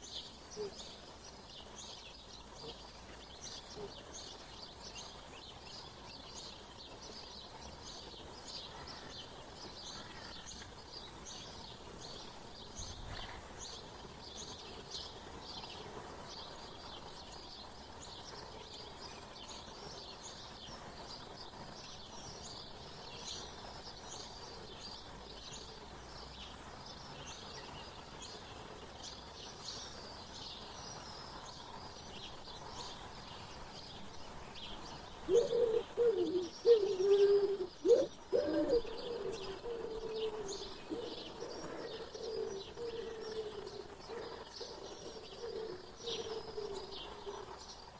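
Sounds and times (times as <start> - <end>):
outdoor background hiss: 0.0 - 47.9
songbirds chirping: 0.0 - 47.9.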